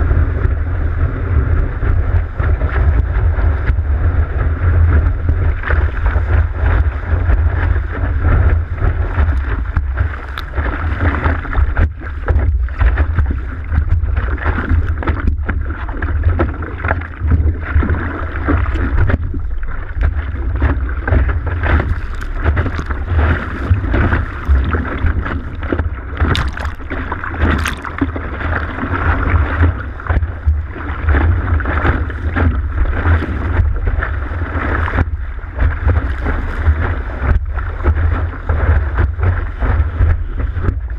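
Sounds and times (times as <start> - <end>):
water splashing under board: 0.0 - 40.9
wind buffeting microphone: 0.0 - 40.9
scattered crackles: 7.3 - 40.9.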